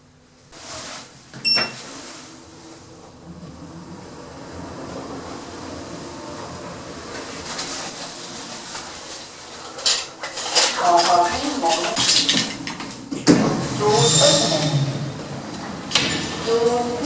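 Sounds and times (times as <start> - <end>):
lift mechanical running noise: 0.0 - 17.0.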